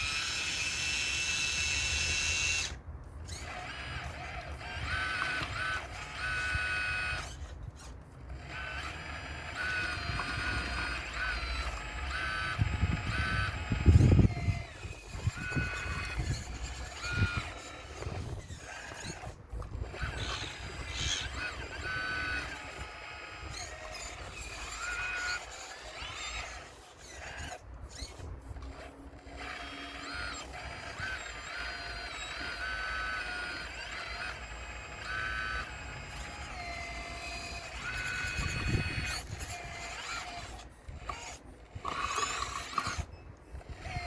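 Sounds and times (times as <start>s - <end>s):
model excavator motors whining: 0.0s - 44.0s.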